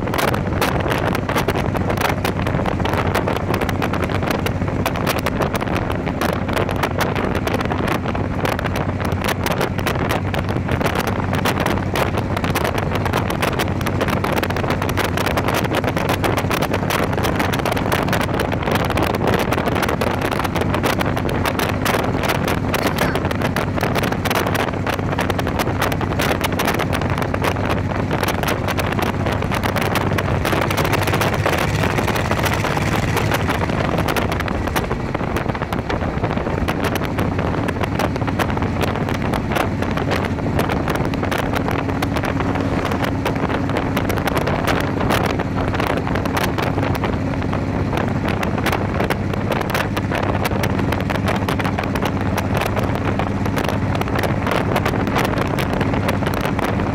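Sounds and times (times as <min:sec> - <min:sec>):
motorcycle engine cruising: 0:00.0 - 0:56.9
road noise: 0:00.0 - 0:56.9
wind buffeting microphone: 0:00.0 - 0:56.9.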